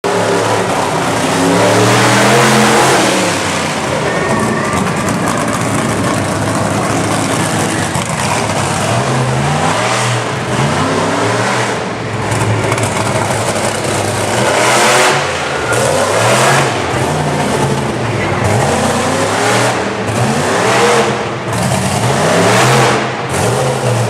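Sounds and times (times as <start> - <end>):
truck engine revving loudly: 0.0 - 24.0.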